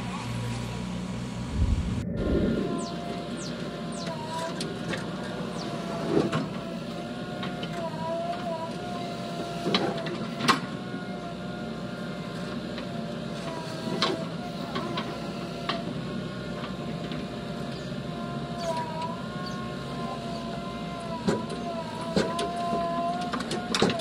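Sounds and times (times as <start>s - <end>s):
diesel engine whining: 0.0s - 24.0s.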